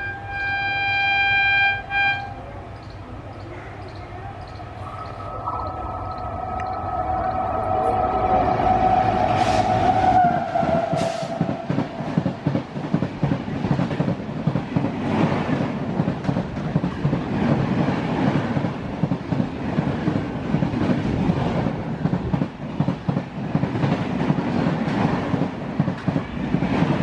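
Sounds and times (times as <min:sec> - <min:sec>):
train coaches rushing past: 0:04.1 - 0:27.0.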